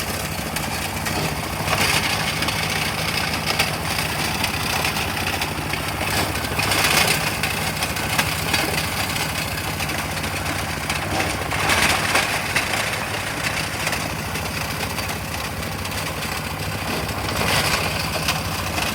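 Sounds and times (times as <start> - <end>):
stone crusher running: 0.0 - 18.9.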